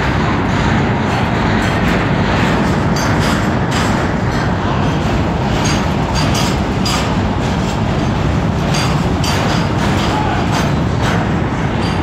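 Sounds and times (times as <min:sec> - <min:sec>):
steel wheels rumbling on rails: 0:00.0 - 0:12.0
metal clanks: 0:01.0 - 0:12.0.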